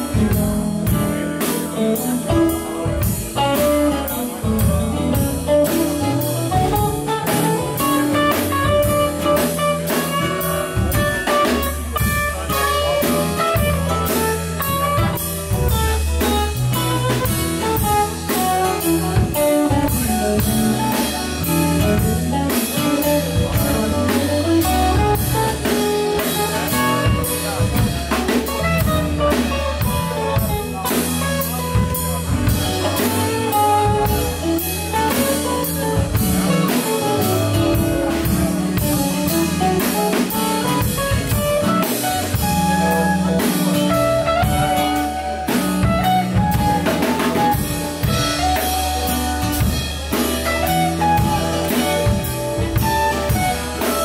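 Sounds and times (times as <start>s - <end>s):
bass line: 0.0s - 54.0s
drum kit beat: 0.0s - 54.0s
electric guitars: 0.0s - 54.0s.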